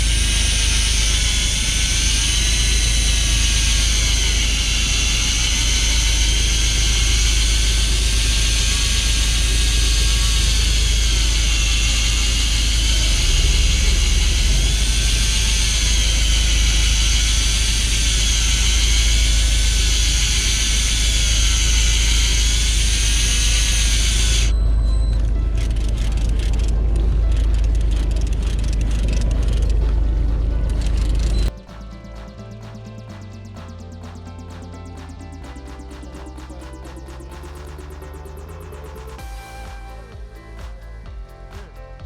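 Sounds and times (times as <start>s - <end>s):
boat engine rumbling: 0.0s - 39.2s
engine whine rising and falling: 0.0s - 42.0s.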